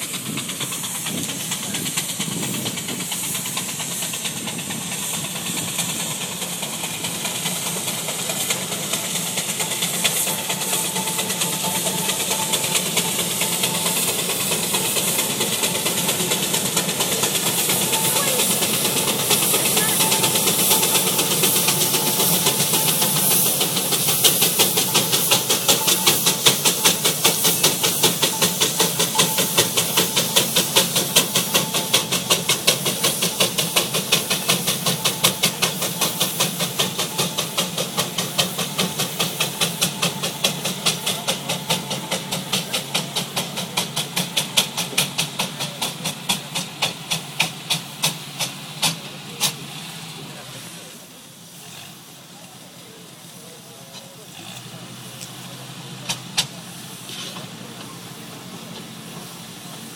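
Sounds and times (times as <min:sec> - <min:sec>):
steam engine exhaust beats: 0:00.0 - 0:59.9
steam hissing: 0:00.0 - 0:59.9.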